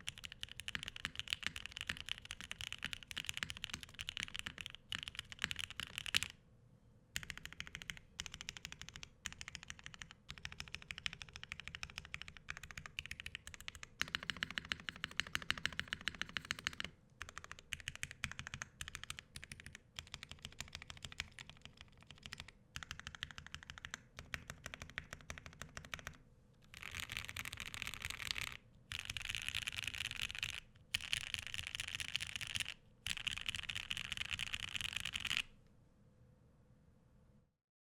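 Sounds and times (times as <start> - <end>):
typing on mechanical keyboard: 0.0 - 6.3, 7.2 - 35.5.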